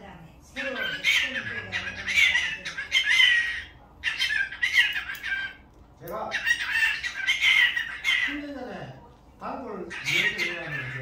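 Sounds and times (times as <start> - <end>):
cockatiel chattering: 0.5 - 8.7, 9.7 - 11.0.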